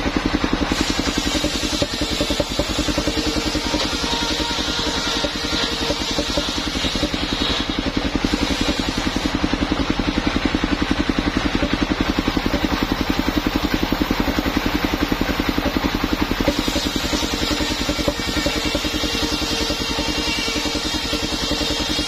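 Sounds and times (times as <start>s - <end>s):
saw blade cutting wood: 0.0s - 22.0s
sawmill engine running: 0.0s - 22.0s.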